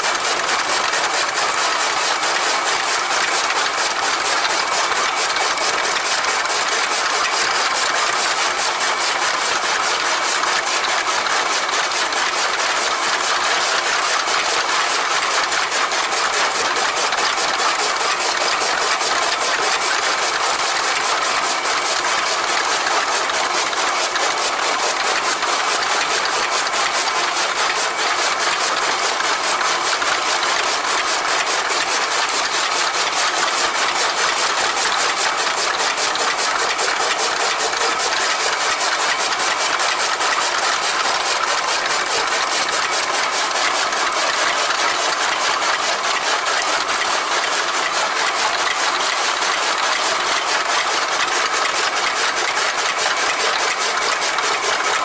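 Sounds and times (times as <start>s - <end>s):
chaff cutter chopping clatter: 0.0s - 55.0s.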